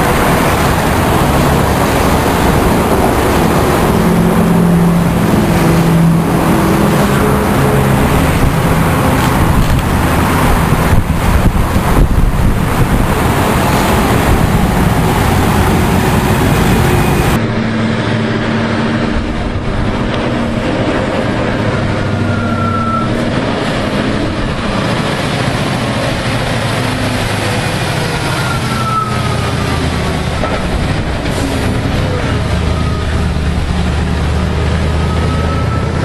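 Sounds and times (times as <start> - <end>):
diesel truck engine running: 0.0 - 36.0
wind noise: 0.0 - 36.0.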